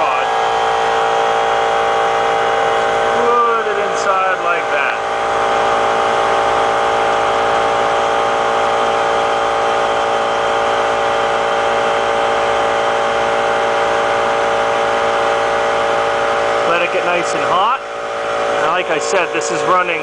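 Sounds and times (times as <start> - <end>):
boiler burner running: 0.0 - 20.0.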